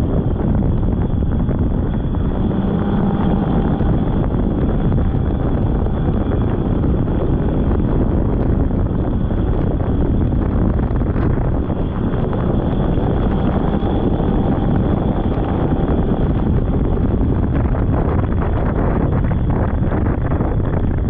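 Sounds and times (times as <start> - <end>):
snowmobile engine drone: 0.0 - 21.0
wind rushing over microphone: 0.0 - 21.0.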